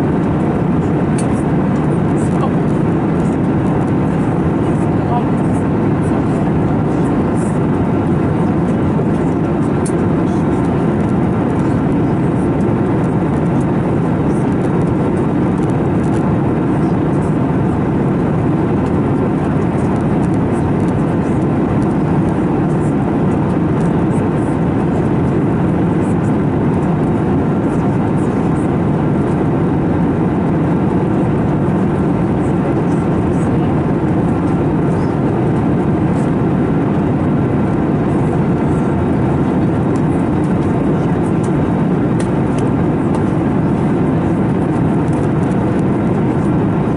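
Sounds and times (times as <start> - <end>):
airliner cabin airflow and engine noise: 0.0 - 46.9.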